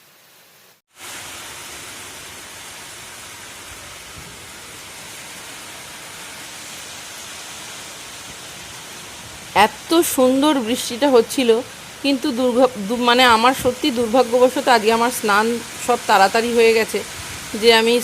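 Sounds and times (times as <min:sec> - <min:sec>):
heavy rain pouring: 0:00.1 - 0:18.0.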